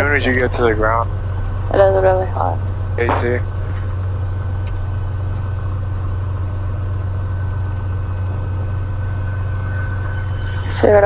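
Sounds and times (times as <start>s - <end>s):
airplane piston engine idling: 0.0s - 11.0s.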